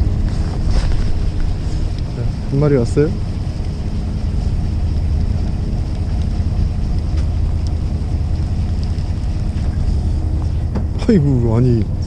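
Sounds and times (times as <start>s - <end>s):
boat engine humming: 0.0s - 12.0s
wind noise on microphone: 0.0s - 12.0s.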